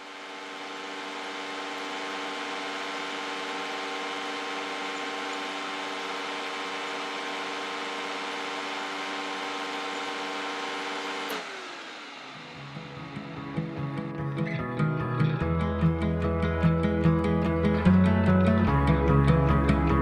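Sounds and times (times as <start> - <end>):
steam cleaner hum: 0.0 - 18.0.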